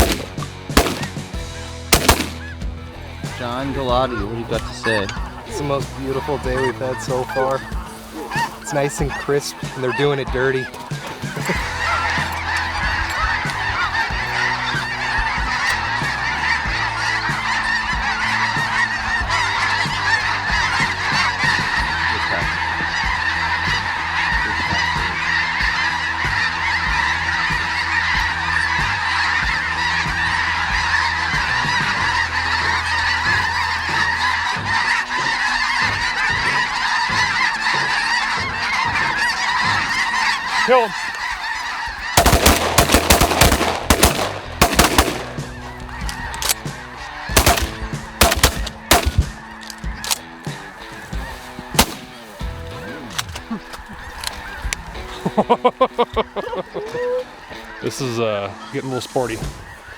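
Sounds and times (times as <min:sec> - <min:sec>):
flock of geese honking: 0:00.0 - 0:59.9.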